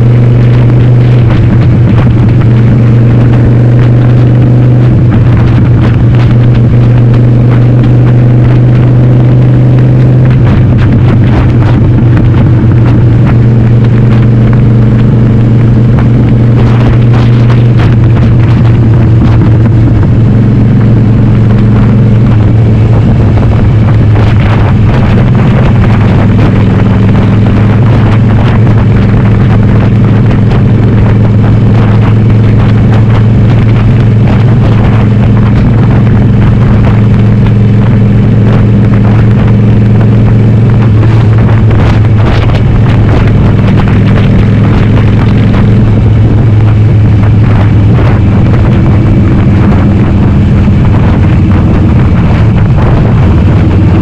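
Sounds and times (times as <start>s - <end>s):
motorcycle engine running loudly: 0.0s - 54.0s.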